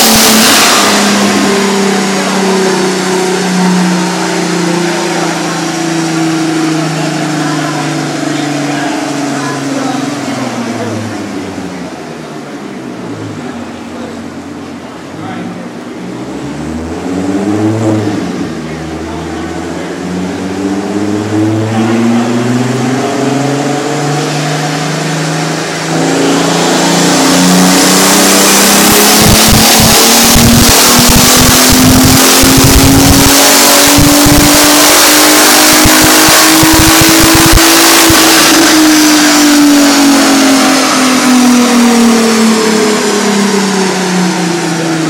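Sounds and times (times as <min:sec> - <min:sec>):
car engine revving on a dyno: 0:00.0 - 0:45.0.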